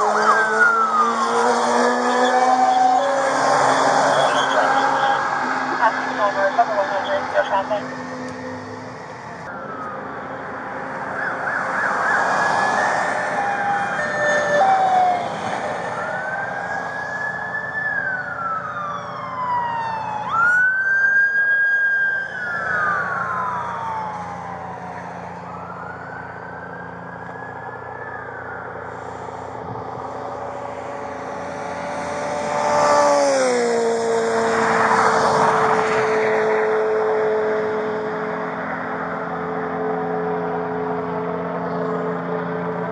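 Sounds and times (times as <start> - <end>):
police sirens wailing: 0.0 - 42.9
vehicles passing: 0.0 - 42.9.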